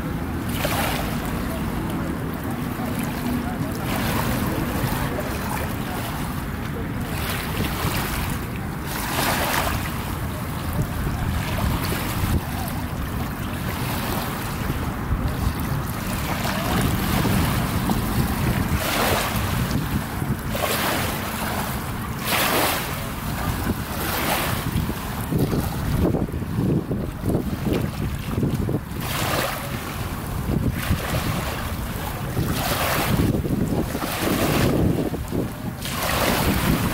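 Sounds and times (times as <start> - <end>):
small waves lapping on rocks: 0.0 - 36.9
wind buffeting microphone: 0.0 - 36.9.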